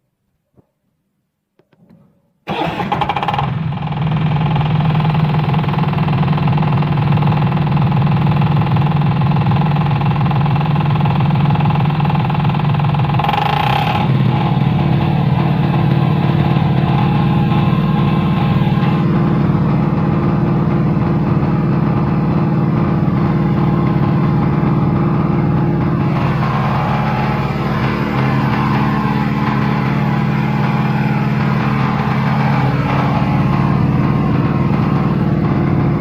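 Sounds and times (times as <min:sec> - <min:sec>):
engine starting and running: 0:01.6 - 0:36.0.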